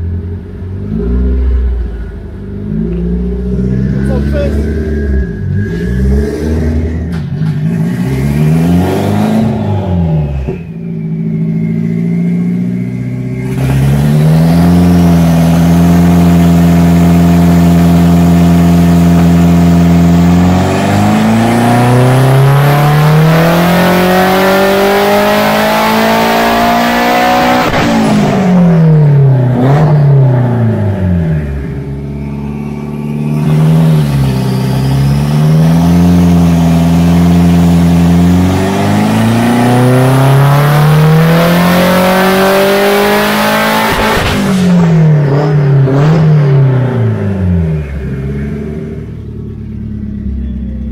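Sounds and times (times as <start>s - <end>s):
engine revving on a dyno: 2.6s - 10.6s, 11.3s - 31.9s, 33.0s - 49.2s.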